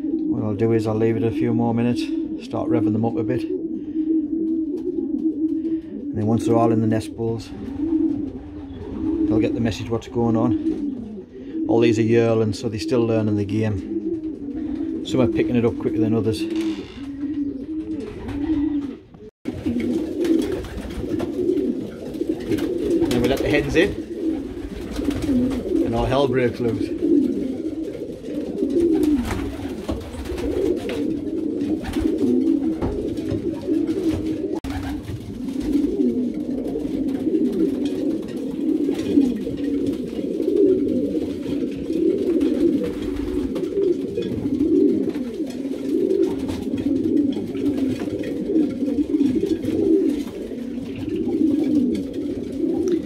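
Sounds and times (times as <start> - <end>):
pigeons cooing: 0.0 - 53.0.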